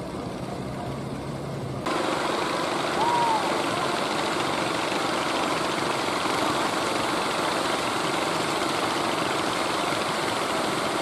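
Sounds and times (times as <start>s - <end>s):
boat engine running: 0.0s - 11.0s
surf washing: 1.9s - 11.0s.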